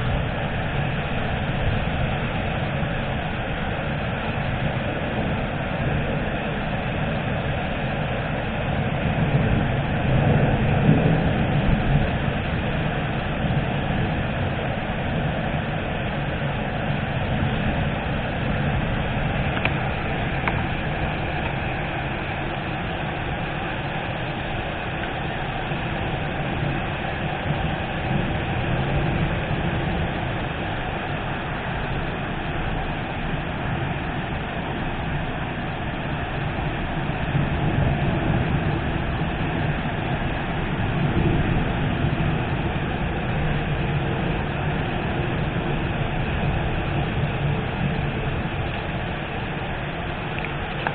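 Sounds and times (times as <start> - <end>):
steady rushing rain noise: 0.0 - 50.9
thunder rumbling: 0.0 - 50.9.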